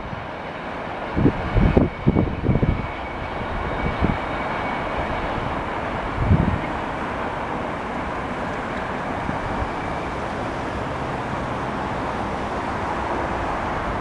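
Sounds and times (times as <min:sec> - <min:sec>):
freight train rumbling by: 0:00.0 - 0:14.0.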